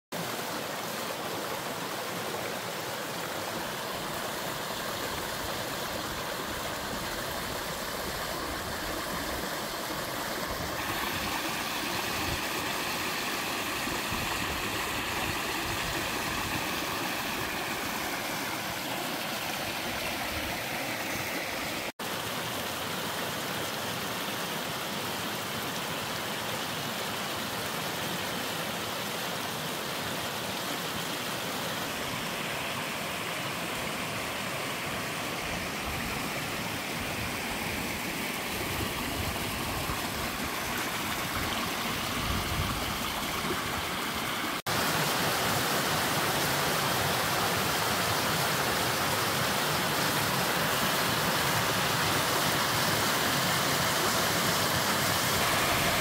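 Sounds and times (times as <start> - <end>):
stream rushing over rocks: 0.1 - 56.0.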